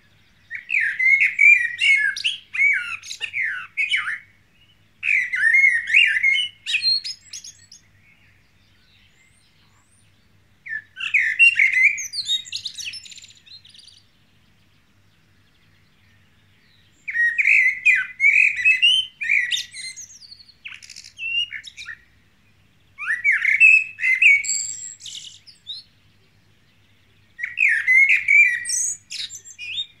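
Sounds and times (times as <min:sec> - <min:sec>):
blackbird singing: 0:00.0 - 0:30.0.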